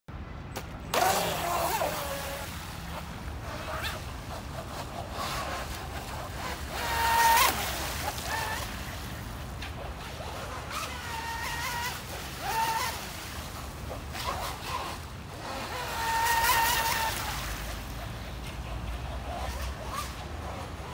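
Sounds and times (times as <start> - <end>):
model boat motor whining: 0.9 - 20.9.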